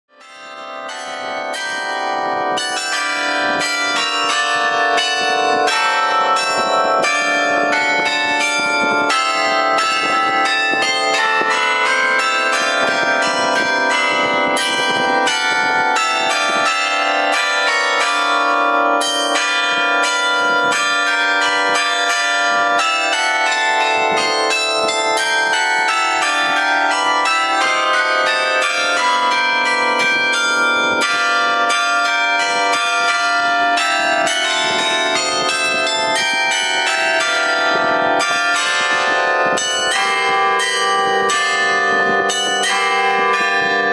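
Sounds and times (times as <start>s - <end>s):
church bells ringing: 0.1s - 43.9s.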